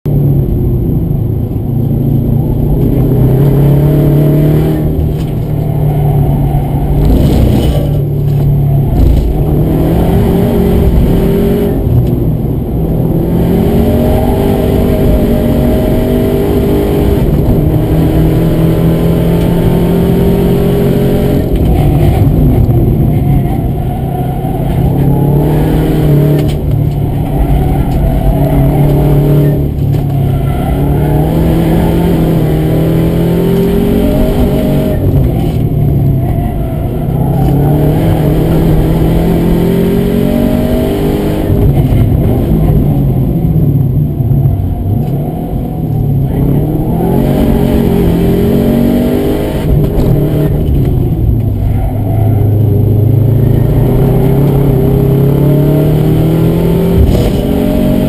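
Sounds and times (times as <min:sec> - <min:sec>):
low road rumble: 0:00.0 - 0:58.0
car engine revving through gears: 0:00.1 - 0:58.0.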